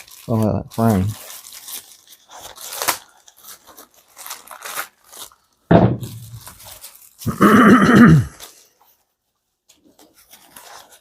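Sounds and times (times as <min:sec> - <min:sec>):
packaging rustling: 0:00.0 - 0:07.3, 0:08.3 - 0:11.0.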